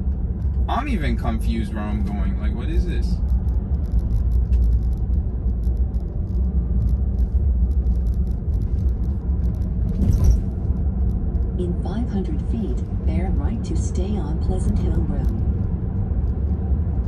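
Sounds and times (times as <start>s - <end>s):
road and tyre noise in car cabin: 0.0s - 17.0s.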